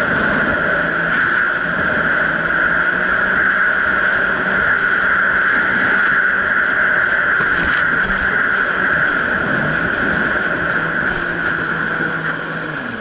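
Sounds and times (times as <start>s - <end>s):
jet ski engine drone: 0.0s - 13.0s
water rushing: 0.0s - 13.0s.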